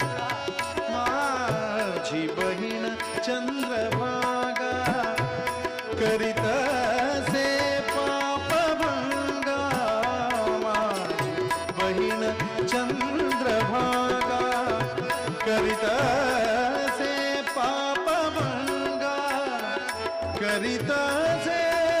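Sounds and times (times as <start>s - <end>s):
man singing wordless melody: 0.0s - 22.0s
tabla playing: 0.0s - 22.0s.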